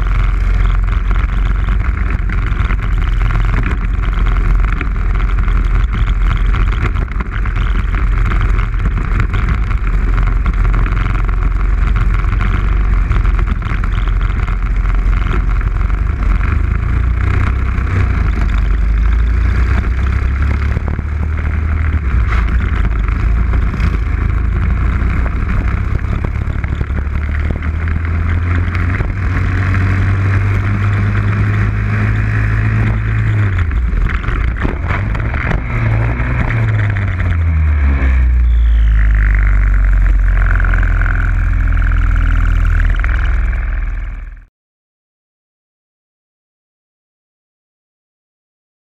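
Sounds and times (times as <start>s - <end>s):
rushing wind: 0.0s - 44.1s
kart engine running hard: 0.0s - 44.4s.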